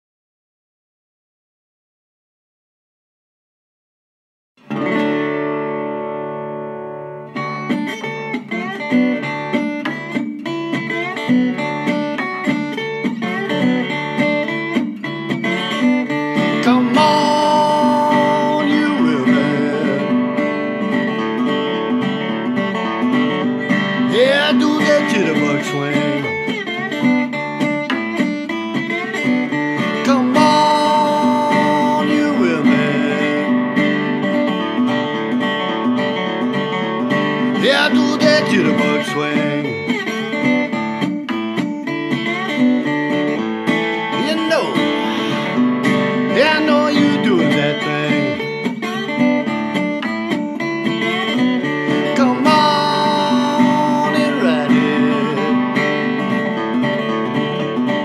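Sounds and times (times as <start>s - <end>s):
acoustic guitar music: 4.6s - 58.0s.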